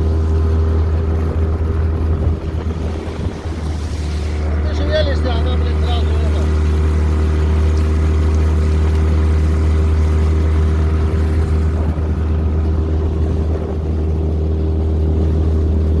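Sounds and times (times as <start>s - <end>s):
outboard motor droning: 0.0s - 16.0s.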